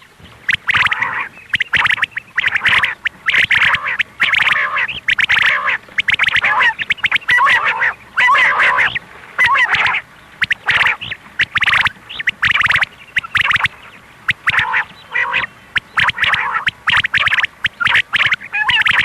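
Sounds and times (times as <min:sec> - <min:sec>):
quail calls: 0:00.0 - 0:19.0.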